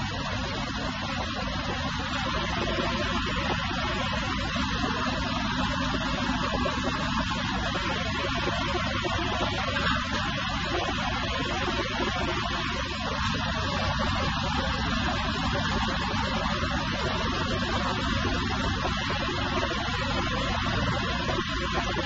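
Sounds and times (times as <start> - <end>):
milling machine humming and hissing: 0.0 - 22.0.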